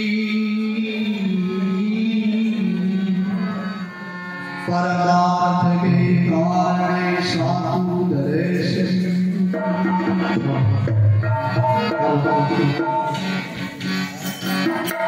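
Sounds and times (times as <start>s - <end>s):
man singing: 0.0s - 4.0s, 4.6s - 13.1s
harmonium: 0.0s - 15.0s.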